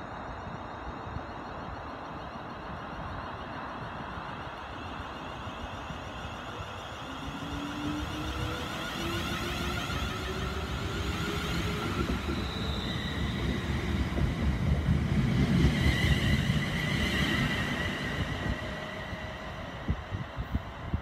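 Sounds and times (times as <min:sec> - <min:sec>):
train wheels rumbling on track: 0:00.1 - 0:21.0.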